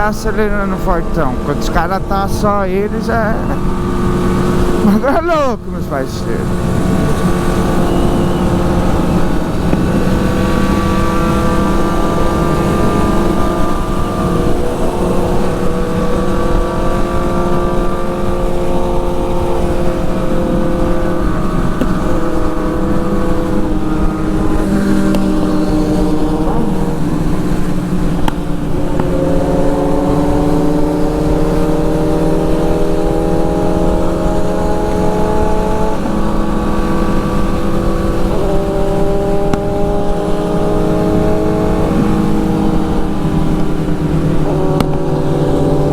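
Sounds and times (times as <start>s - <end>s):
motorcycle engine running: 6.4s - 45.9s.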